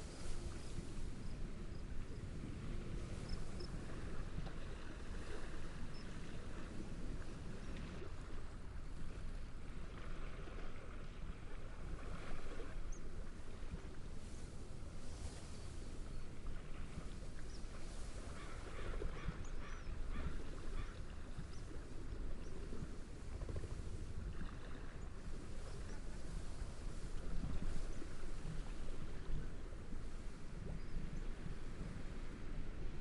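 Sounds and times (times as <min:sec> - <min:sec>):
waves lapping: 0:00.0 - 0:33.0
wind rustling through reeds: 0:00.0 - 0:33.0.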